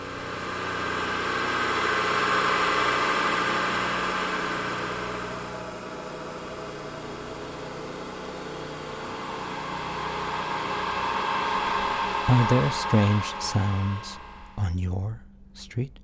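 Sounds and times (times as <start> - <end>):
electronic engine drone: 0.0 - 14.8.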